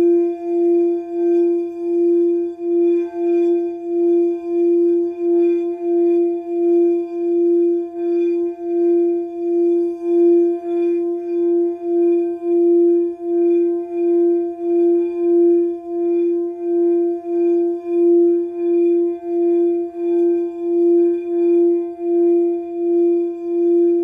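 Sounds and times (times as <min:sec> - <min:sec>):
singing bowl tone: 0:00.0 - 0:24.0.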